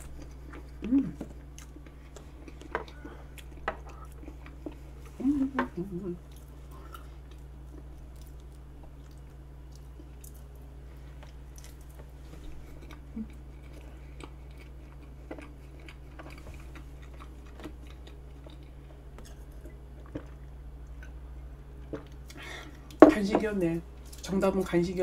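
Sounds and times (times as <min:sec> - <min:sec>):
chewing: 0:00.0 - 0:05.6, 0:06.2 - 0:21.2
steady low hum: 0:00.0 - 0:25.0.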